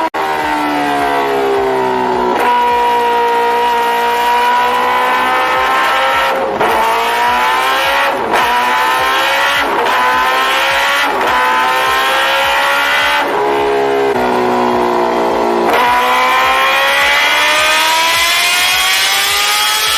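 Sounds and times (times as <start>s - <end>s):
motorcycle engine accelerating: 0.0s - 19.9s.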